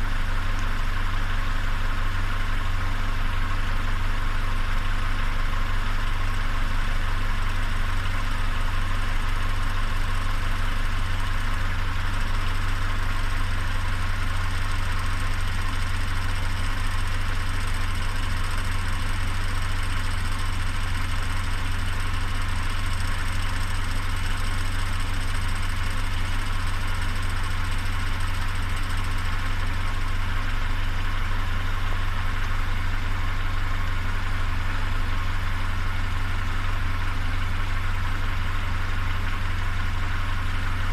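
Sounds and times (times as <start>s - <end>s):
car engine idling: 0.0s - 40.9s
strange engine noise: 0.0s - 40.9s.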